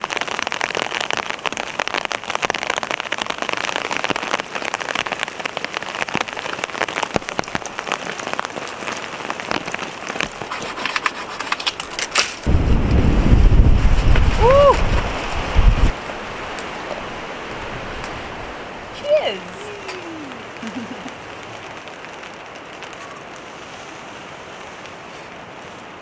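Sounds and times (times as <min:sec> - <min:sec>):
heavy rain on fabric tent: 0:00.0 - 0:26.0.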